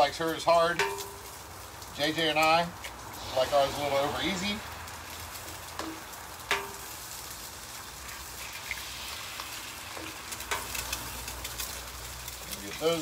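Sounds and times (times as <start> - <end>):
eggs sizzling on griddle: 0.0 - 13.0.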